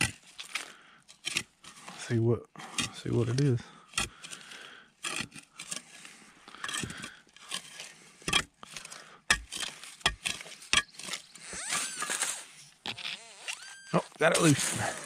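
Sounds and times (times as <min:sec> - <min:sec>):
digging tool scraping rocks: 0:00.0 - 0:15.0.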